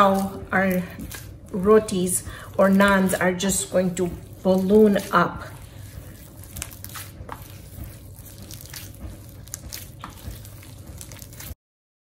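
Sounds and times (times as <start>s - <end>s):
dough squishing being kneaded: 0.0s - 11.6s.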